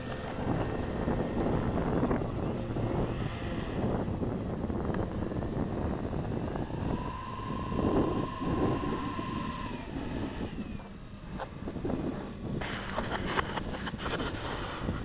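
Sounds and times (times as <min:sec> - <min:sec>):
model plane motors and propellers: 0:00.0 - 0:15.0
steady motor whine: 0:00.0 - 0:15.0.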